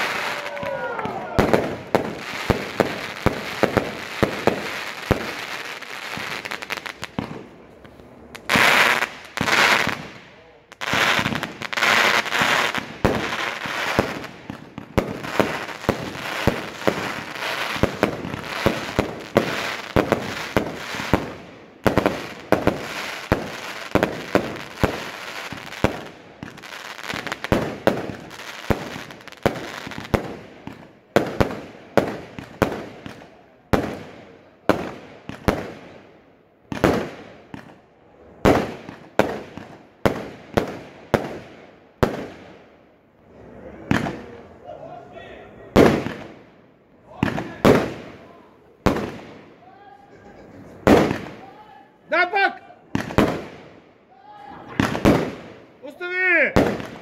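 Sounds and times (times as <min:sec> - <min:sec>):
fireworks crackling: 0:00.0 - 0:44.6, 0:45.7 - 0:49.6, 0:50.2 - 0:54.0, 0:54.6 - 0:57.0.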